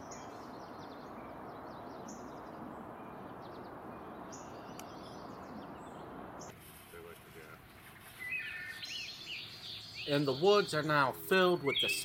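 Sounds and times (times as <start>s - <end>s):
faint bird twittering: 0.0s - 6.6s, 7.6s - 12.0s
birds calling: 0.0s - 12.0s
steady outdoor hiss: 0.0s - 12.0s.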